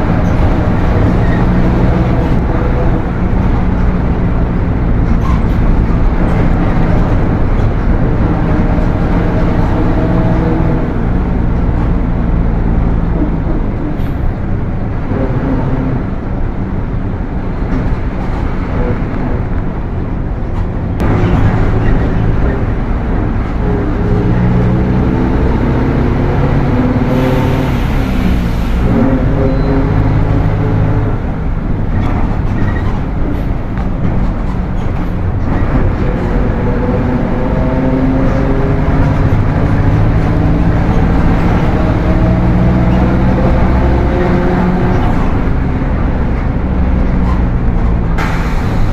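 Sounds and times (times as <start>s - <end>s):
bus diesel engine running: 0.0s - 48.9s
loud transmission whine: 0.0s - 48.9s.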